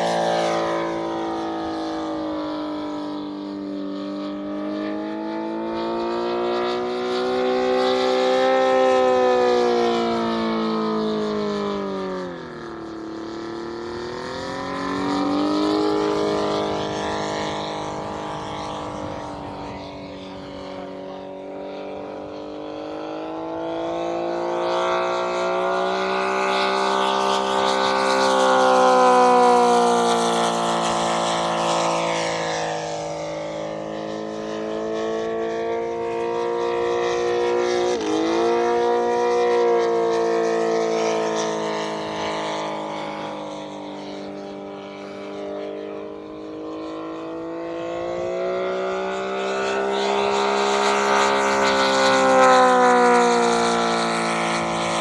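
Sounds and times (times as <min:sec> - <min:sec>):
model airplane engine in flight: 0:00.0 - 0:55.0.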